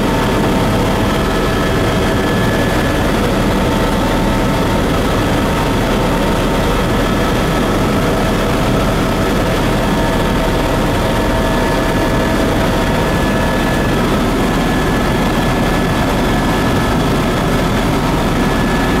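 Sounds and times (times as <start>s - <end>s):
helicopter engine and rotor rumble: 0.0s - 19.0s.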